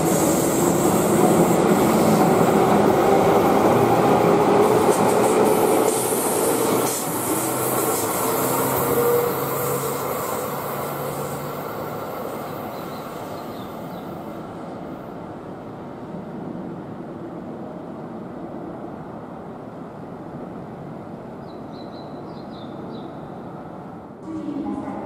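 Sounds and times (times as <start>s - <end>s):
electric train rumble and hiss: 0.0s - 21.4s.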